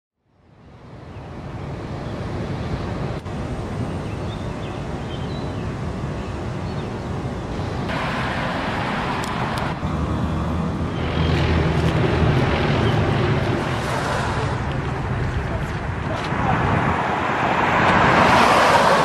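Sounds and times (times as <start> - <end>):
low city rumble: 0.2 - 19.0.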